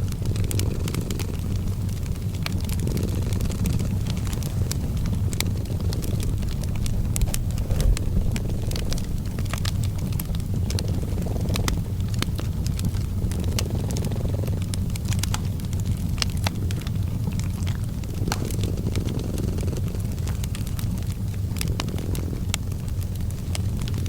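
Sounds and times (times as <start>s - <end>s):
cat purring: 0.0s - 24.0s
wood fire crackling and popping: 0.0s - 24.0s.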